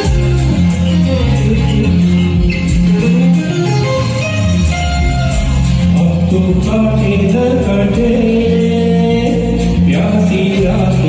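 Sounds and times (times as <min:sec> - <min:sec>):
film song instrumental music: 0:00.0 - 0:11.0.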